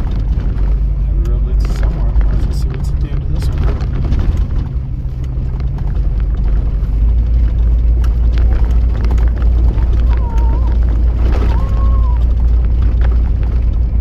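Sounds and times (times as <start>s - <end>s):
knocks and rattles from bumps: 0.0s - 14.0s
vehicle engine and road rumble: 0.0s - 14.0s.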